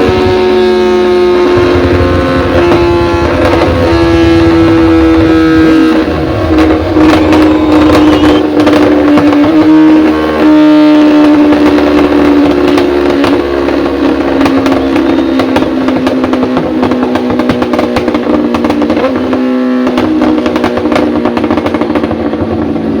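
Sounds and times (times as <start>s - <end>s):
motorcycle engine at high revs: 0.0s - 23.0s
sharp engine crackles: 0.0s - 23.0s.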